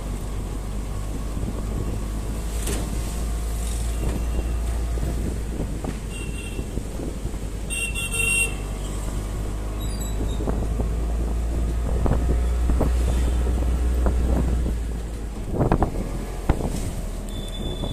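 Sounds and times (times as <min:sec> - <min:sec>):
engine and tyre rumble: 0:00.0 - 0:17.9
truck passing: 0:00.0 - 0:17.9
wind on microphone: 0:00.3 - 0:07.8, 0:08.6 - 0:17.9.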